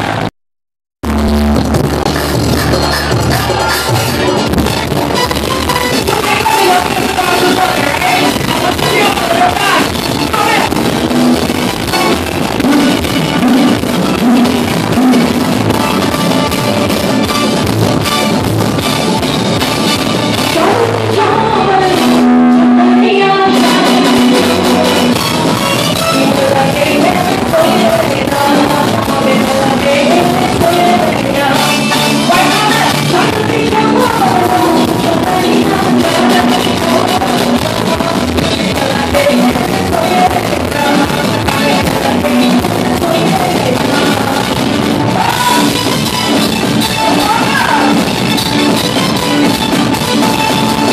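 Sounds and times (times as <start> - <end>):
live band music through a pa: 0.0 - 0.3, 1.0 - 50.9
person singing: 2.1 - 17.3, 20.4 - 50.9.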